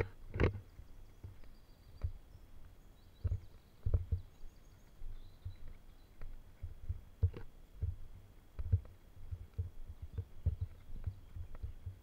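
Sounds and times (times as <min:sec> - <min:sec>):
faint bird chirps: 0:00.0 - 0:07.2, 0:09.2 - 0:12.0
footsteps on dirt path: 0:00.0 - 0:12.0.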